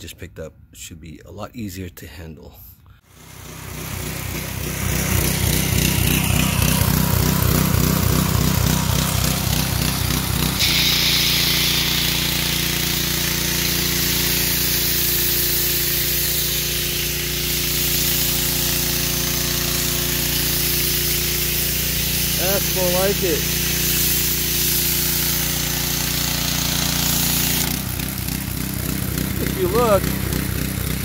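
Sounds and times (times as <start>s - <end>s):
pressure washer engine running: 3.1s - 31.0s
water spray hiss: 3.2s - 28.7s.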